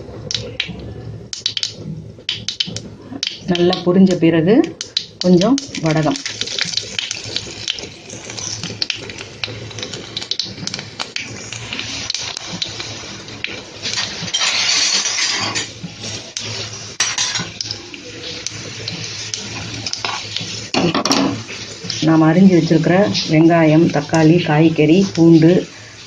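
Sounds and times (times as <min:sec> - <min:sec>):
seeds frying in hot oil: 0:00.0 - 0:26.0.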